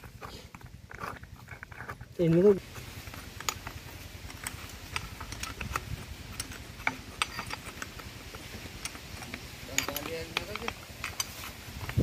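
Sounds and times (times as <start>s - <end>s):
spanners clinking on bolts: 0.0s - 12.0s.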